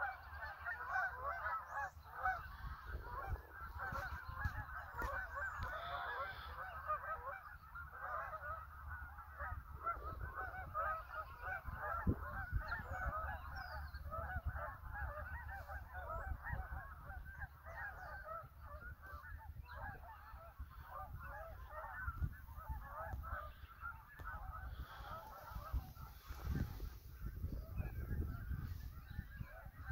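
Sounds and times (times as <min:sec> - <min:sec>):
geese honking in flight: 0:00.0 - 0:29.9.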